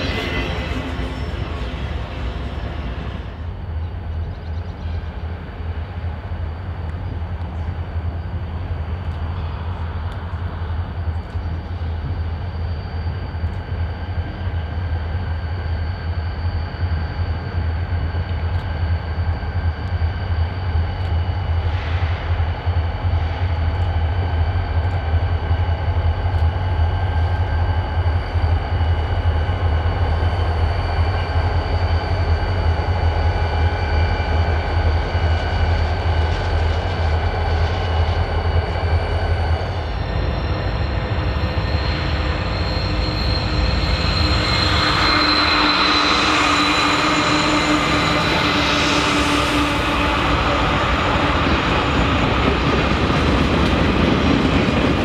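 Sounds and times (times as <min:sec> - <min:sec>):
diesel locomotive rumble: 0:00.0 - 0:55.0
thin steady whine: 0:00.0 - 0:55.0.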